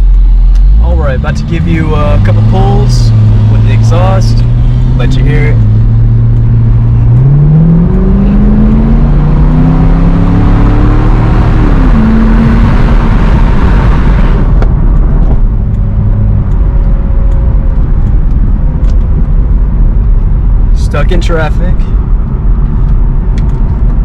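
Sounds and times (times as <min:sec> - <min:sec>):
sports car engine accelerating: 0:00.0 - 0:24.0.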